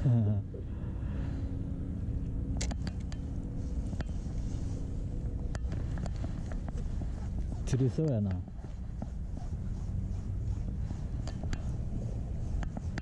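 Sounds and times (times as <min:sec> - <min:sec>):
constant hum: 0:00.0 - 0:13.0
low engine rumble: 0:00.0 - 0:13.0.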